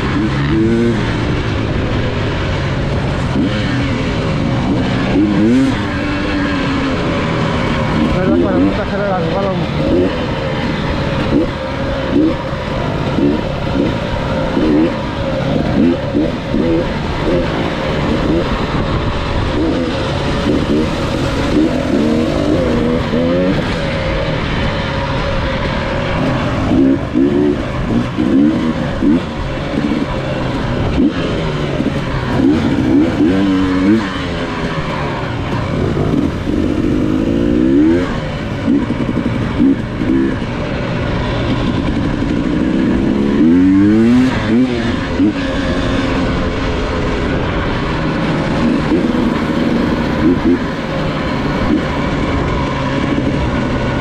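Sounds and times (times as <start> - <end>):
dirt bike engine revving: 0.0 - 54.0
steady rush of noise: 0.0 - 54.0.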